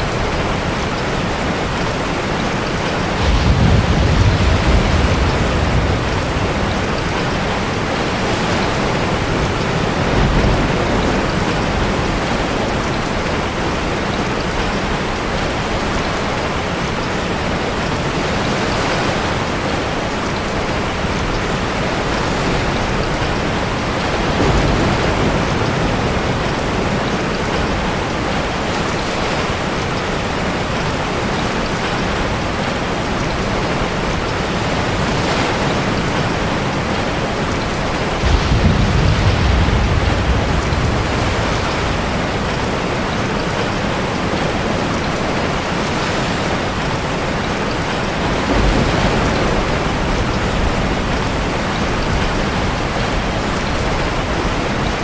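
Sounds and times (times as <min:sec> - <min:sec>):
heavy rain: 0:00.0 - 0:55.0
surf: 0:00.0 - 0:55.0.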